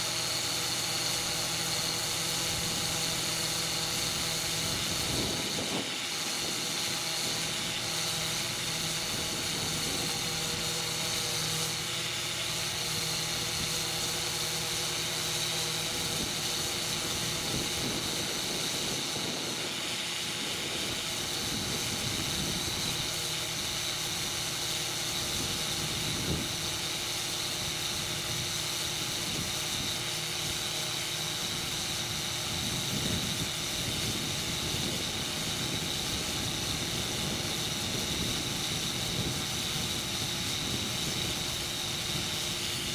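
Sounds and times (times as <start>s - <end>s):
air compressor running: 0.0s - 42.9s
hiss of air: 0.0s - 42.9s.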